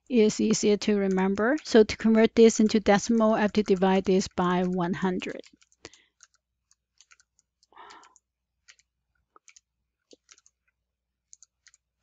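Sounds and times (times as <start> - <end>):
keyboard and mouse clicks: 0.0 - 11.9.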